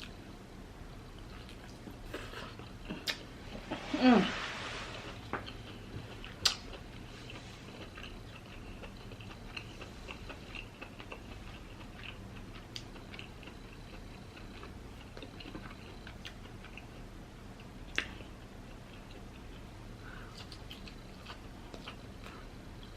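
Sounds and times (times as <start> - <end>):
close chewing: 1.1 - 3.8, 4.9 - 22.9.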